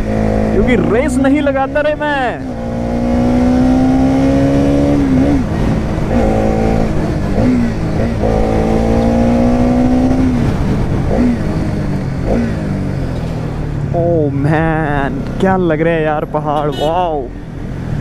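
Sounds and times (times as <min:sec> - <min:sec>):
motorcycle engine accelerating: 0:00.0 - 0:16.8.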